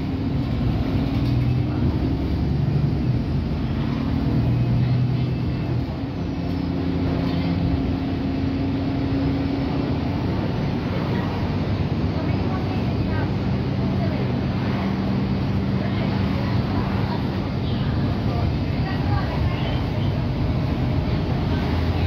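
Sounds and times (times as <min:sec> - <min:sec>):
bus diesel engine: 0:00.0 - 0:22.0
road noise: 0:00.0 - 0:22.0.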